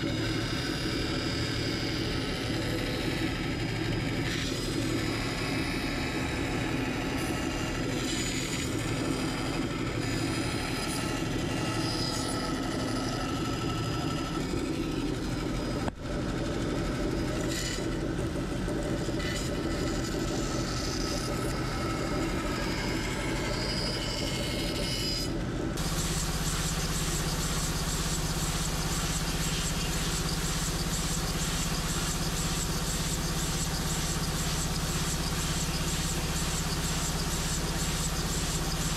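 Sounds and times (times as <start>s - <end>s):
belt sander running: 0.0s - 38.9s.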